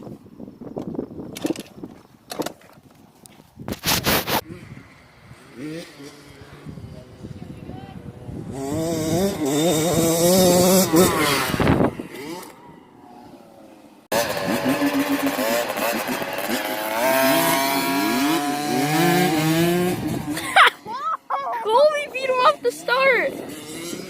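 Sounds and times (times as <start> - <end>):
dirt bike engines revving: 4.2 - 24.0.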